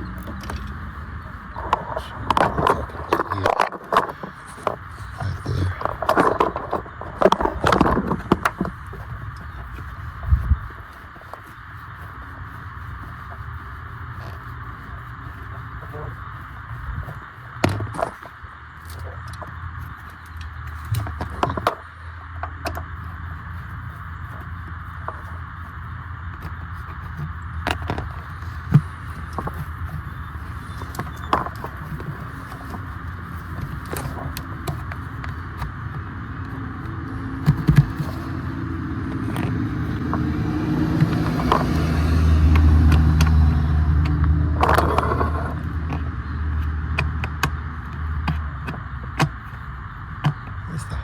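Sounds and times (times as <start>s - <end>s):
motor vehicle low rumble: 0.0s - 51.0s
steady hum: 0.0s - 51.0s.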